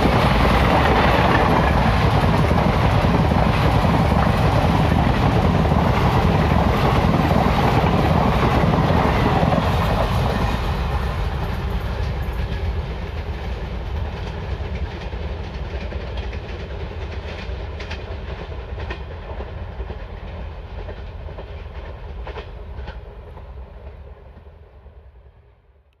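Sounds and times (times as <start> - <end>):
train wheels clickety-clack: 0.0 - 24.6.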